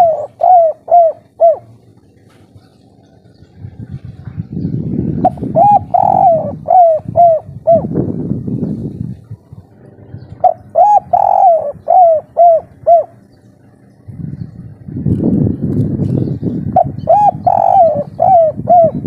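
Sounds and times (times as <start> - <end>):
dove cooing: 0.0 - 8.2, 9.1 - 13.8, 16.5 - 19.0
low rumble: 0.8 - 19.0.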